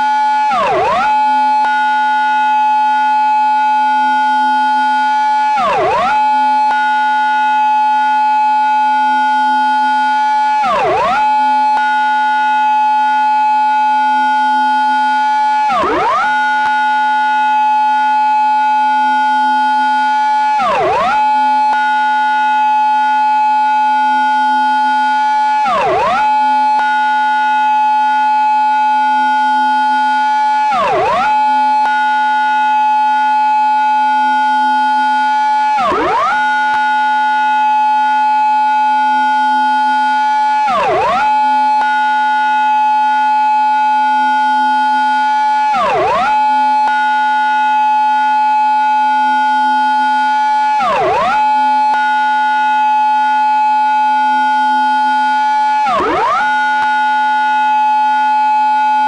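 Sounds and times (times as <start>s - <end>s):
police car siren: 0.0s - 59.0s.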